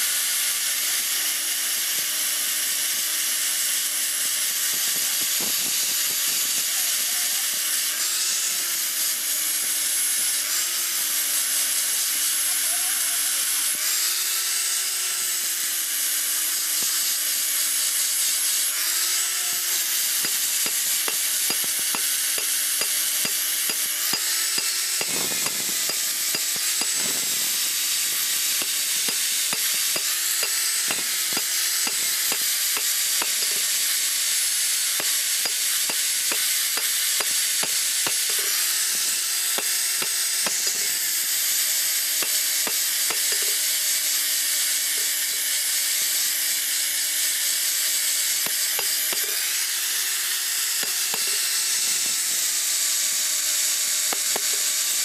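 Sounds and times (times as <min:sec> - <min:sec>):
angle grinder grinding steel: 0:00.0 - 0:55.0.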